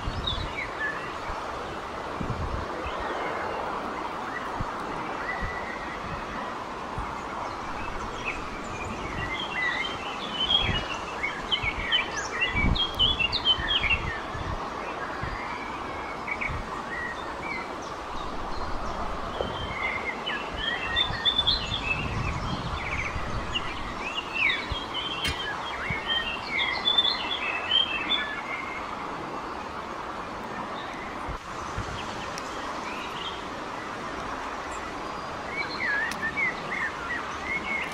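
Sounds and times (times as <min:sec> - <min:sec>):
steady background hiss: 0:00.0 - 0:37.9
small birds chirping: 0:02.6 - 0:37.9.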